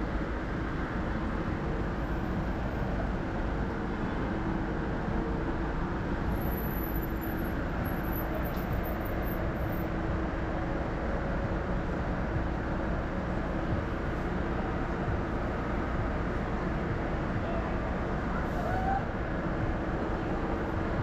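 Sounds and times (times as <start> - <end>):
faint engine hum: 0.0 - 21.0
rumble of passing vehicles: 0.0 - 21.0.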